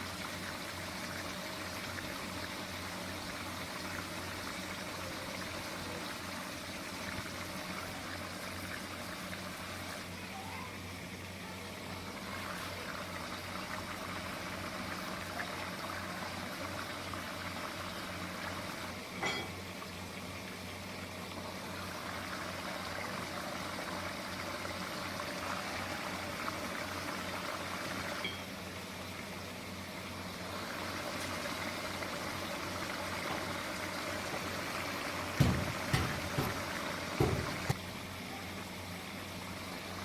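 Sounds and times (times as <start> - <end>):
liquid running and bubbling: 0.0 - 40.0.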